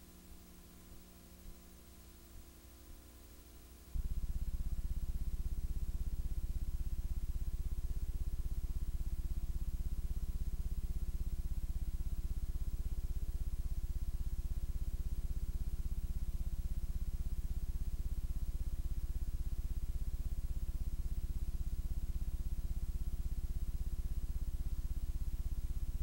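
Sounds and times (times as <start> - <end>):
low electrical hum with flutter: 0.0 - 26.0.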